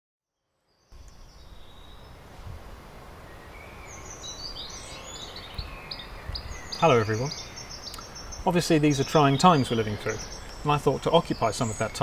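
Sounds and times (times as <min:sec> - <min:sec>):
songbirds chirping: 0:00.6 - 0:12.0.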